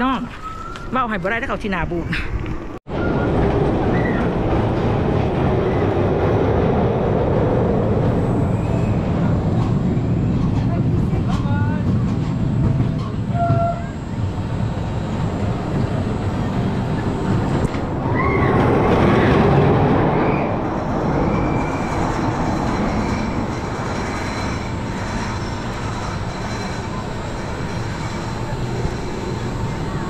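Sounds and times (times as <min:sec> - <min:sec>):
roller coaster rumbling on track: 0:00.0 - 0:30.0
roller coaster squeals: 0:00.3 - 0:01.2, 0:02.9 - 0:10.8, 0:12.5 - 0:30.0.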